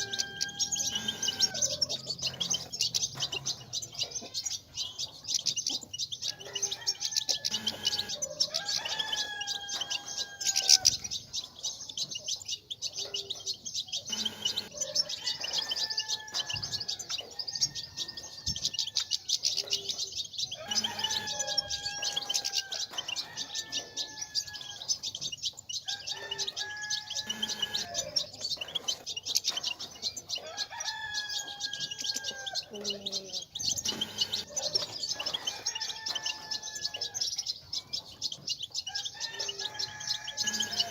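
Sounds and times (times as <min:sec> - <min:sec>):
finches twittering and chattering: 0:00.0 - 0:40.9.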